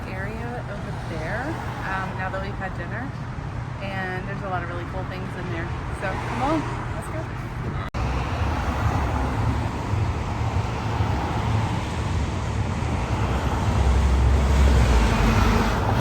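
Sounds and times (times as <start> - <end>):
rumble of passing cars: 0.0 - 16.0.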